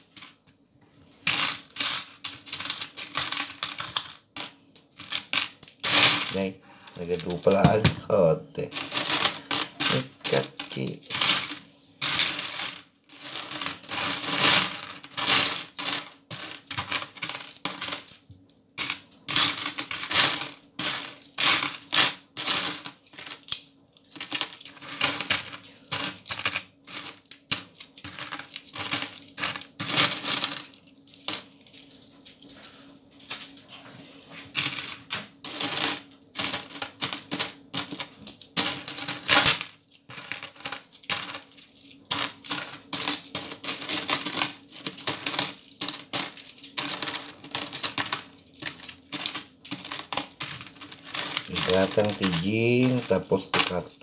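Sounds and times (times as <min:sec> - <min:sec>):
coins clinking in plastic tray: 0:01.2 - 0:33.6, 0:34.5 - 0:54.0.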